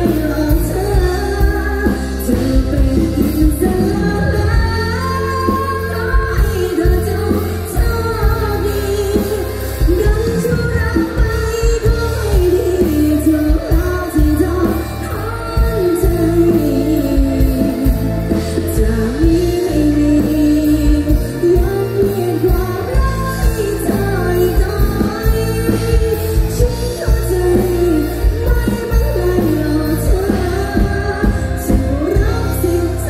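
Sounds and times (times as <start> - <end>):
live pop band: 0.0 - 33.0
woman singing into a microphone: 0.0 - 33.0.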